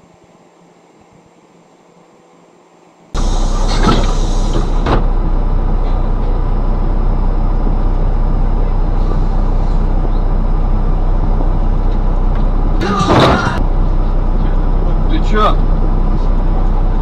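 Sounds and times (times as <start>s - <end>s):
vehicle rumble: 3.1s - 17.0s.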